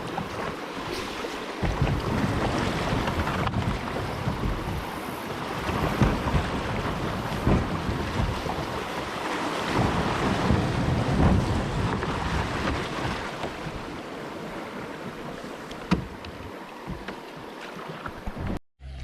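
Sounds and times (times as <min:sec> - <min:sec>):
wind buffeting microphone: 0:00.0 - 0:17.0
moving water: 0:00.0 - 0:19.0.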